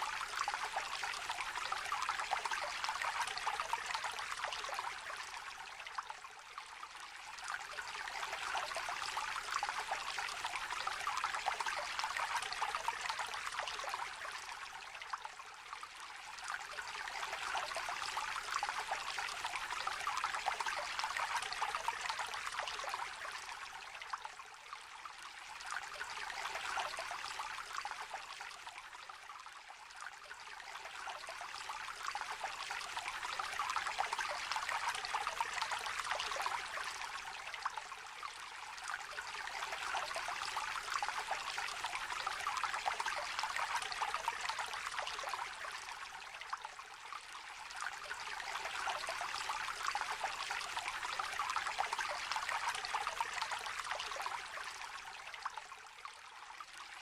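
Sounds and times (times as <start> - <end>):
small river babbling: 0.0 - 57.0.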